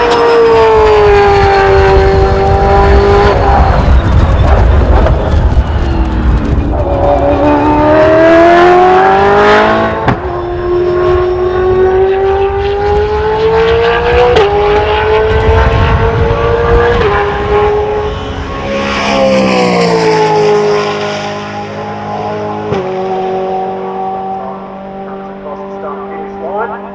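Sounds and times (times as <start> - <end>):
race car engine accelerating: 0.0 - 26.9.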